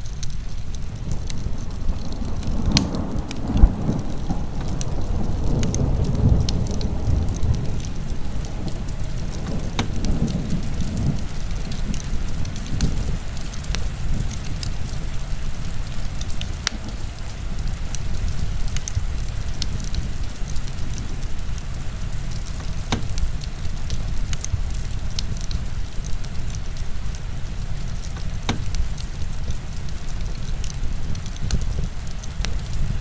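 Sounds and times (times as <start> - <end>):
heavy rain: 0.0 - 33.0
wood fire crackling and popping: 0.0 - 33.0.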